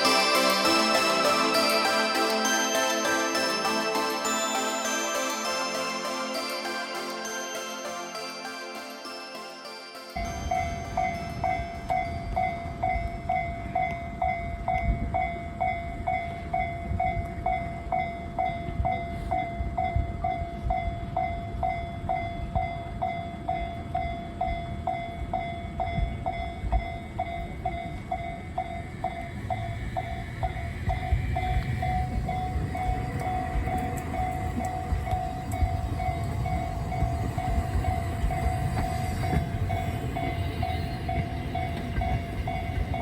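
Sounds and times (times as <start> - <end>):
level crossing warning bell: 0.0 - 43.0.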